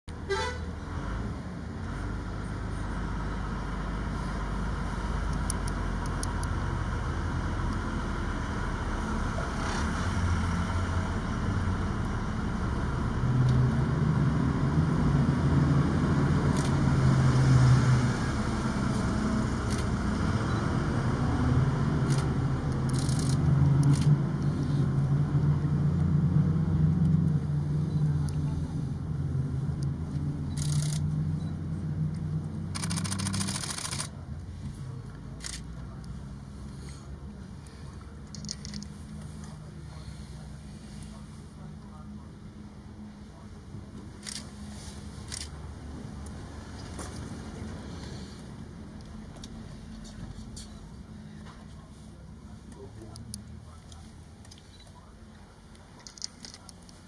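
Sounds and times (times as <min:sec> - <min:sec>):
vehicle engine rumbling: 0:00.0 - 0:57.0.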